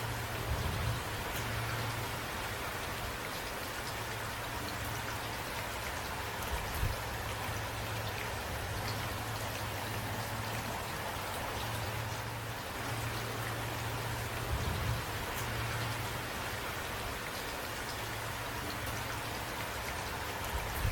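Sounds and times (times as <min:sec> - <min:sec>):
raindrops ticking on a surface: 0:00.0 - 0:20.9
steady rain: 0:00.0 - 0:20.9.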